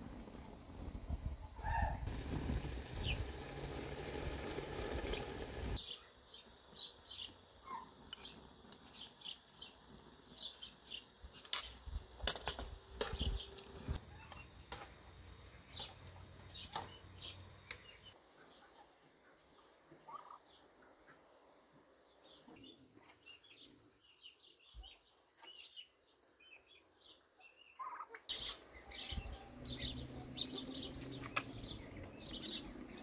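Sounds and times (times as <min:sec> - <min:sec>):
small birds chirping: 0:02.8 - 0:03.7, 0:04.9 - 0:12.2, 0:13.0 - 0:14.8, 0:15.5 - 0:21.3, 0:21.9 - 0:33.0.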